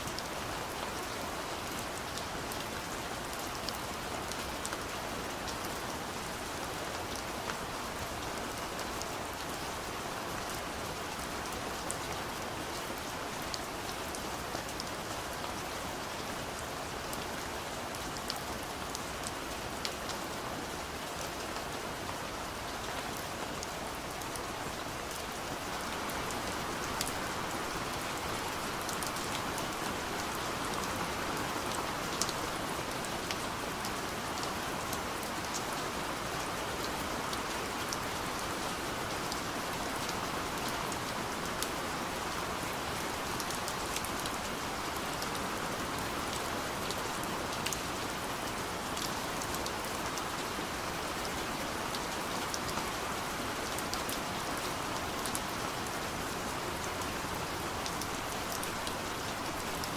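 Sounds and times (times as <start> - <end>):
rain on a window: 0.0 - 59.9.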